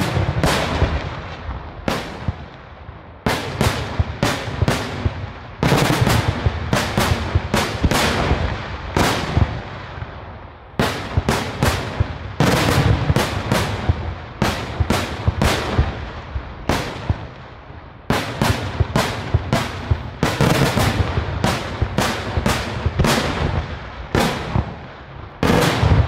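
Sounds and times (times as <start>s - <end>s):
fireworks bangs echoing: 0.0s - 26.0s.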